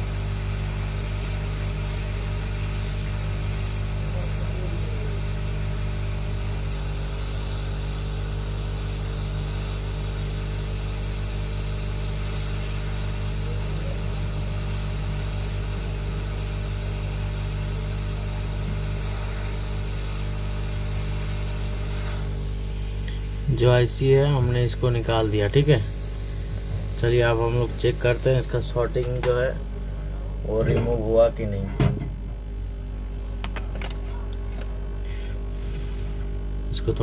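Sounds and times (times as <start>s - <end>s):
hot air station blowing and humming: 0.0s - 31.0s, 31.8s - 37.0s.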